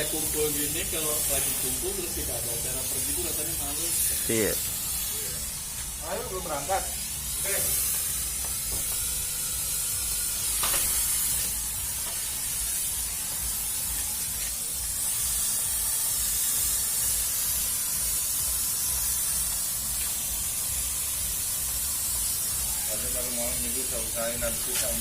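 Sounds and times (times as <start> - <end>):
fogging machine hissing: 0.0 - 25.0.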